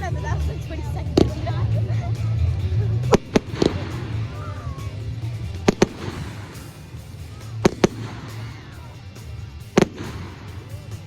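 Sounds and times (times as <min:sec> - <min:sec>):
background music: 0:00.0 - 0:11.0
fireworks exploding: 0:01.0 - 0:11.0.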